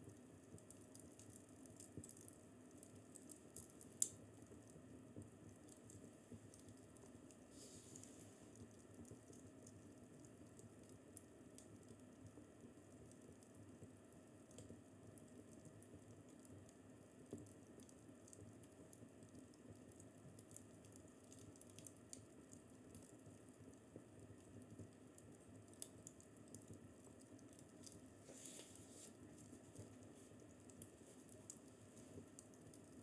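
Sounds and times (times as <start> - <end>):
fireplace crackling: 0.0 - 33.0.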